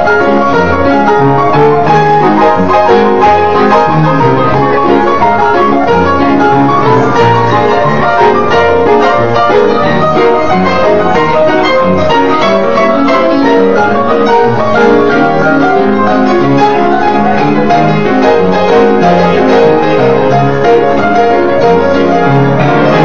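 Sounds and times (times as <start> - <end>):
ragtime upright piano: 0.0 - 23.0.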